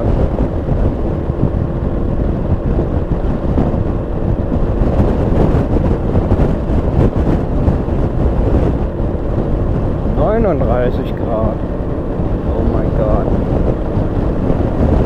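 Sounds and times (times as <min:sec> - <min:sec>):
scooter engine cruising: 0:00.0 - 0:15.0
wind rushing over microphone: 0:00.0 - 0:15.0.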